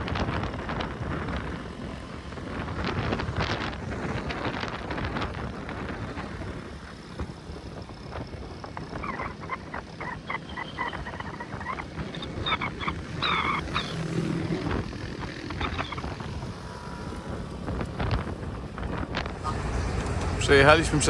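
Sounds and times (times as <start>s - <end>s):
motorbike engine running: 0.0s - 19.4s
wind rushing over microphone: 0.0s - 21.0s.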